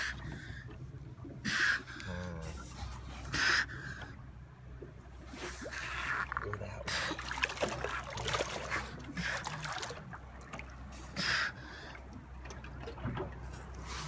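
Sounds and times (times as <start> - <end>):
water splashing against hull: 0.0 - 14.0.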